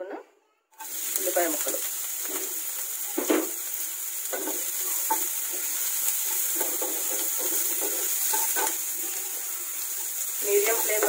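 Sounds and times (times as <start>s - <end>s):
onions sizzling in hot oil: 0.8s - 11.0s.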